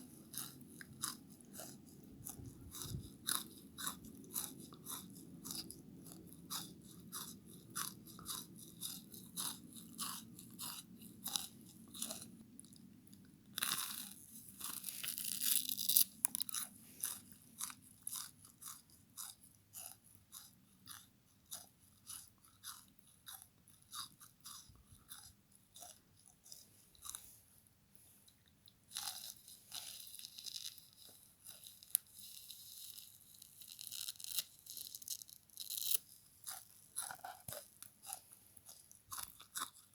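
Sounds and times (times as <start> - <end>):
crunching chewing bites: 0.2 - 27.2, 28.9 - 39.9.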